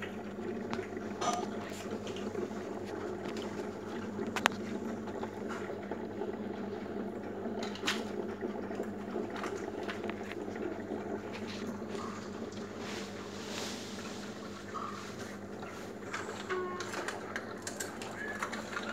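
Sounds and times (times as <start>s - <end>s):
aquarium water bubbling: 0.0s - 18.9s
low pump hum: 0.0s - 18.9s.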